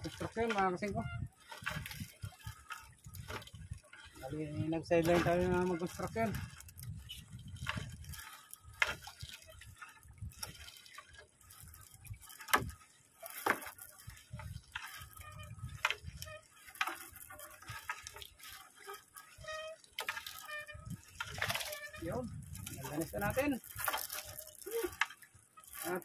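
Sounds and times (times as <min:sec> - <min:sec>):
water dripping and splashing: 0:00.0 - 0:26.0.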